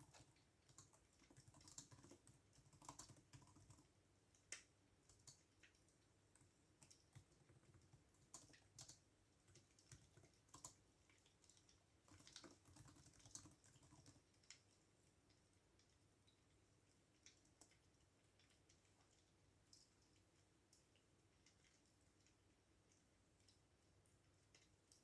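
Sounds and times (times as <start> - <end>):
faint keyboard typing: 0.0 - 25.0.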